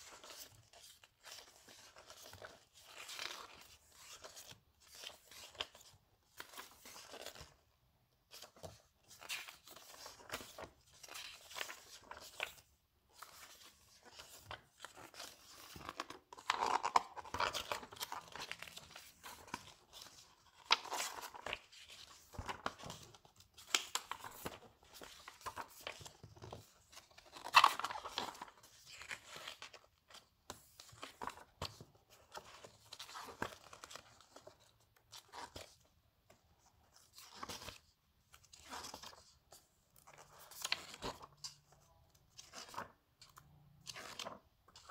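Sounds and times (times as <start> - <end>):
book pages being turned: 0.0 - 7.6, 8.3 - 35.9, 36.6 - 44.9.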